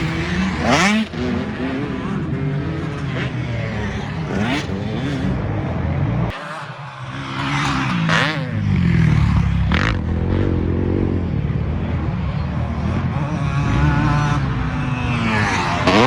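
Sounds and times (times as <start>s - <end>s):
racing engines revving: 0.0s - 16.0s.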